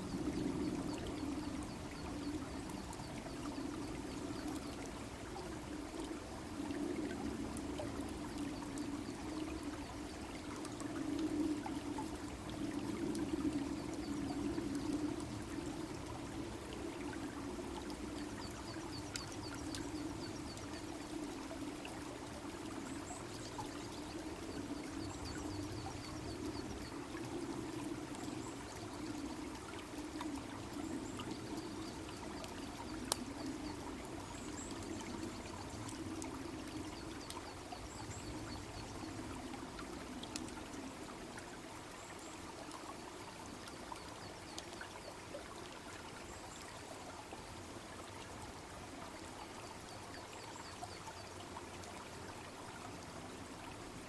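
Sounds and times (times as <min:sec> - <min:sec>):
babbling brook: 0:00.0 - 0:54.0.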